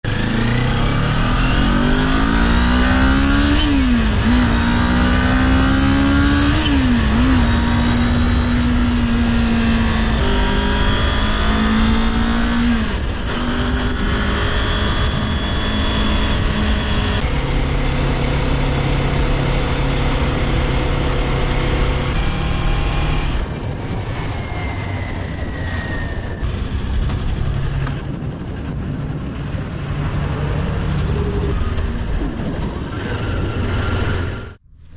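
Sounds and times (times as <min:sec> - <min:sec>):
motorcycle engine accelerating: 0:00.0 - 0:34.9
wind noise on microphone: 0:00.1 - 0:34.9.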